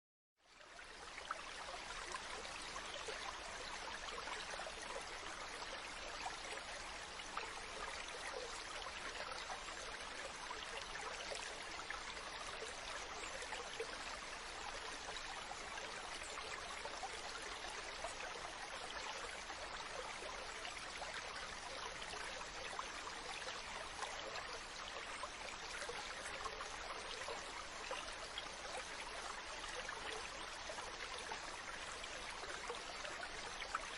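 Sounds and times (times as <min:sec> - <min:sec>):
stream running over rocks: 0:00.4 - 0:33.9.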